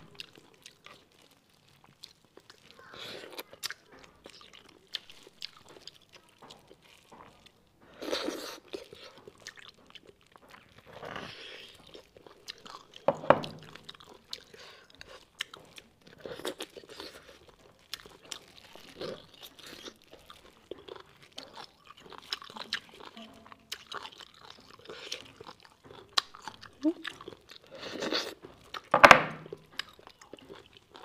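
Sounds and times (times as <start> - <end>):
close chewing and crunching: 0.0 - 31.0.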